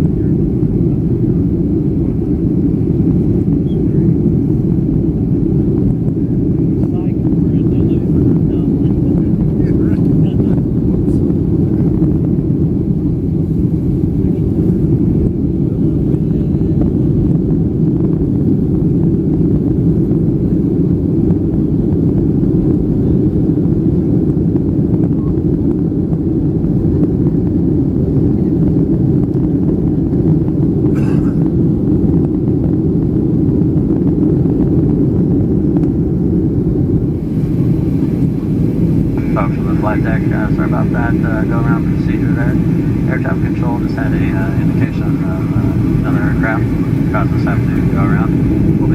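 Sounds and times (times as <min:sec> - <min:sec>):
airliner cabin engine roar: 0:00.0 - 0:48.9.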